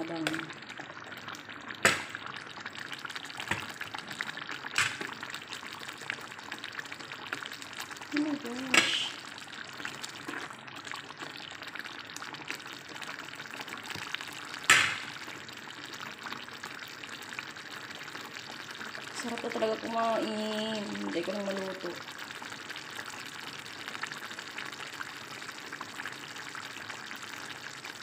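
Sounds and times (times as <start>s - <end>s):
food sizzling in a pot: 0.0s - 28.0s.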